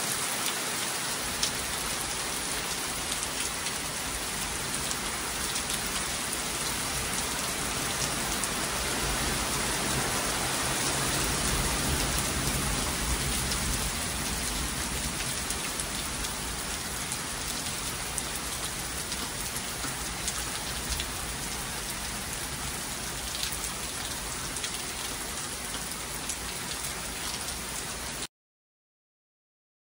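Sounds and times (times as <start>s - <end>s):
heavy rain pouring through trees: 0.0s - 28.3s.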